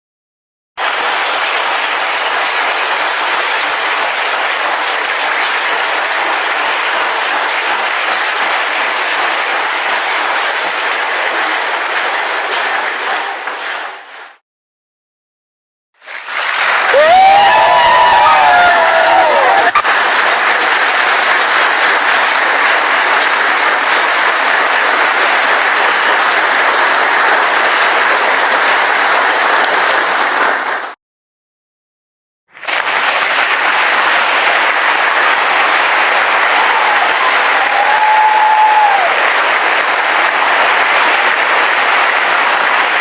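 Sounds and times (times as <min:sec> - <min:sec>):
audience applauding: 0:00.8 - 0:14.4, 0:16.0 - 0:31.0, 0:32.6 - 0:43.0.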